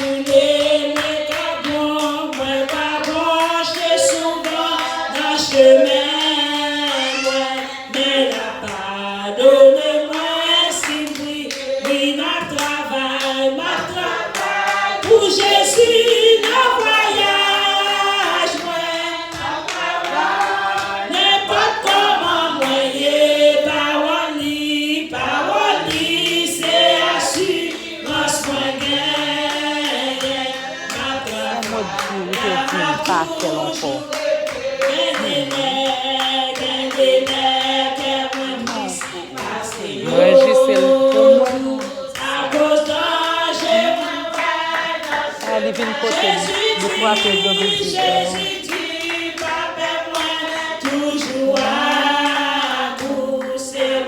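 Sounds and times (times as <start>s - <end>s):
congregation singing a hymn: 0.0s - 54.0s
hand clapping: 0.0s - 54.0s.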